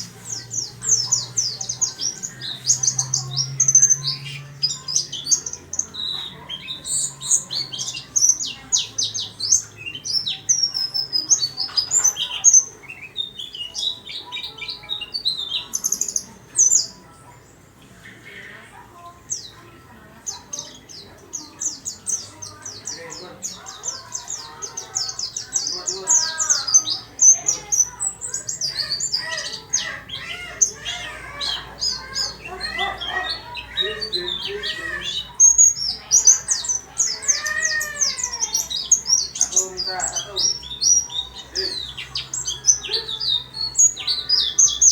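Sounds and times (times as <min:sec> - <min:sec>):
bird singing high chirps: 0:00.0 - 0:44.9.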